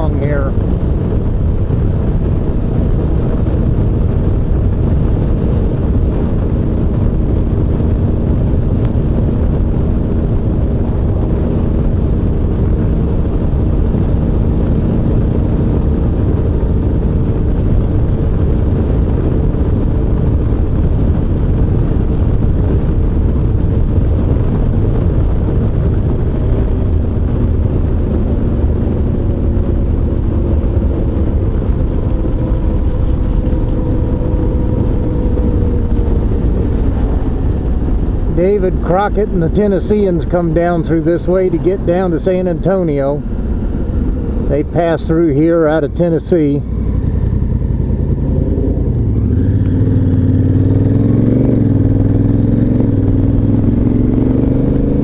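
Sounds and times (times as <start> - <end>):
motorcycle engine drone: 0.0 - 55.0
wind rushing on microphone: 0.0 - 55.0.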